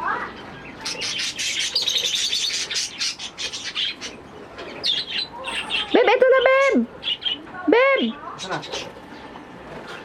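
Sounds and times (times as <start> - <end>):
small birds chirping rapidly: 0.0 - 10.0.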